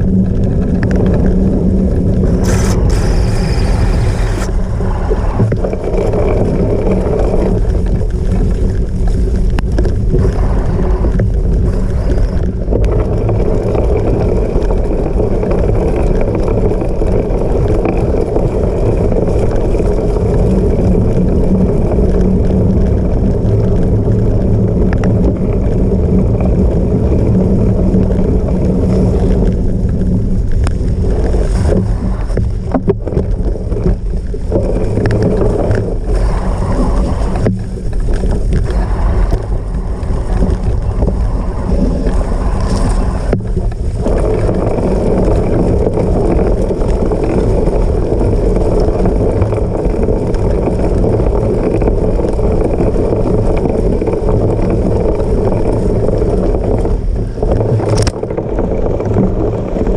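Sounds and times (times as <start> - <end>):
bike tyres rolling over rough ground: 0.0 - 59.9
wind on microphone: 0.0 - 59.9.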